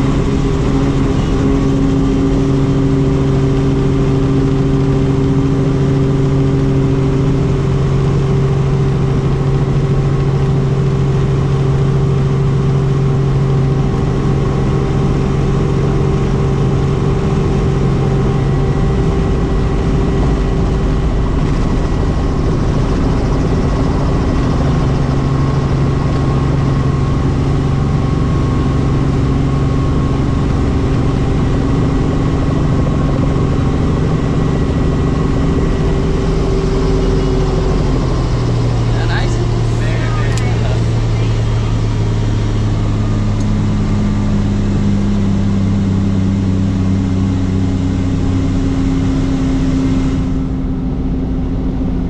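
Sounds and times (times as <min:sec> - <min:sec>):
helicopter droning: 0:00.0 - 0:52.0.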